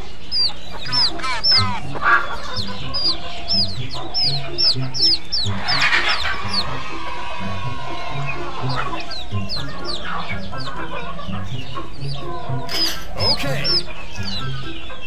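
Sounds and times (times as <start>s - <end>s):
background music with low beat: 0.0s - 15.0s
chicks peeping: 0.0s - 15.0s.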